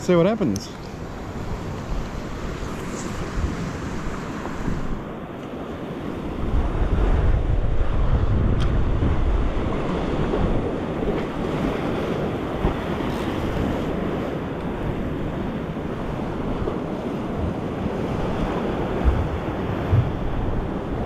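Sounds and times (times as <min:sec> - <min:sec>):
ocean surf washing against rocks: 0:00.0 - 0:21.0.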